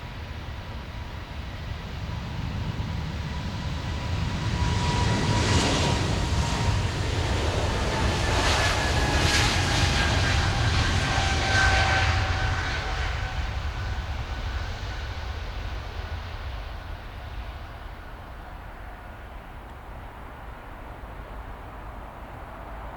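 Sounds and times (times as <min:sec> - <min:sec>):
jet engines roaring with whine: 0:00.0 - 0:22.9.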